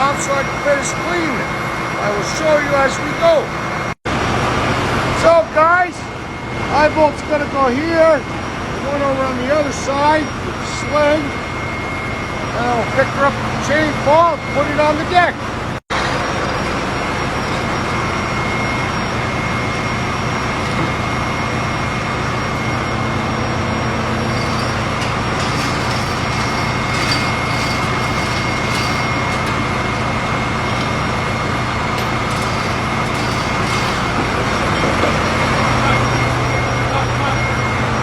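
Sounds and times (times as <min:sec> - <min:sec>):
engine room machinery drone: 0:00.0 - 0:38.0
high whine: 0:00.0 - 0:38.0.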